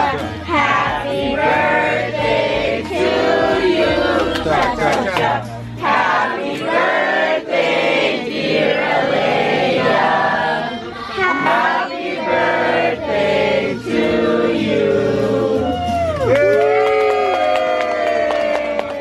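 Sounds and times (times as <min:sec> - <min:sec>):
group singing a birthday song: 0:00.0 - 0:16.1.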